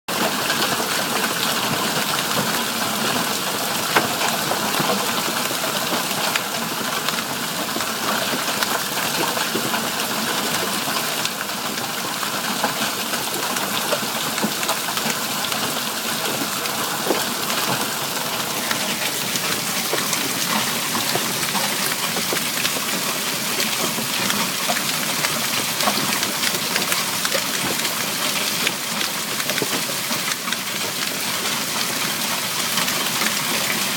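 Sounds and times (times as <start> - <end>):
hailstones ticking on hard surfaces: 0.1 - 33.9
heavy rain hissing: 0.4 - 29.4.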